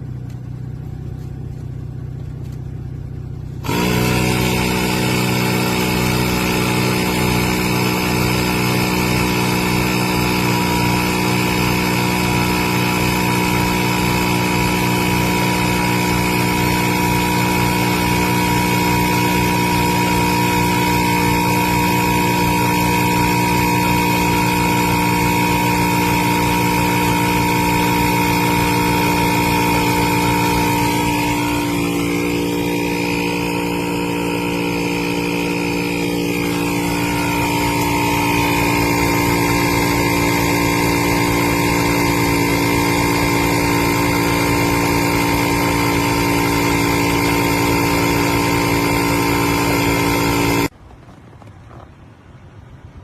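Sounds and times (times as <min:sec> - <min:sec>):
tire inflator compressor buzzing: 0:00.0 - 0:50.8.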